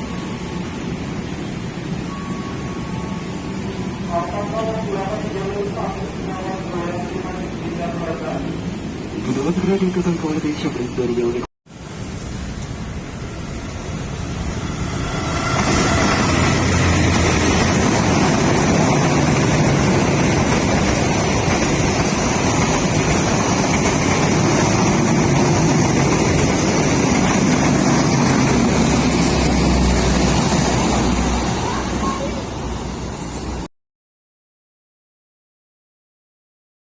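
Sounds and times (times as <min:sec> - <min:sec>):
train rumbling: 0:00.0 - 0:33.7.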